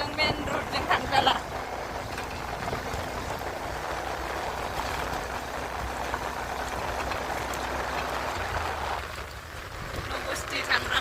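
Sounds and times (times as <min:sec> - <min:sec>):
low engine rumble: 0:00.0 - 0:11.0
wind and road noise: 0:00.0 - 0:11.0.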